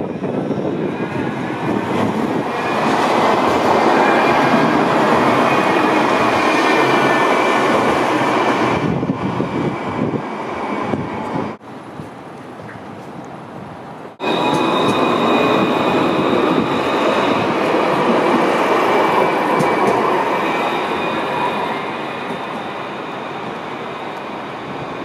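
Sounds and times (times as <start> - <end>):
tram high whine: 0.0 - 25.0
tram rumbling on street track: 0.0 - 25.0.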